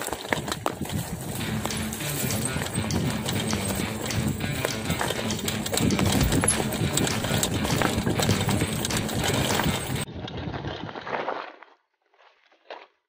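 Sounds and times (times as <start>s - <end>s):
bike clattering and rattling: 0.0s - 11.4s
tyres crunching over loose stones: 0.0s - 13.0s.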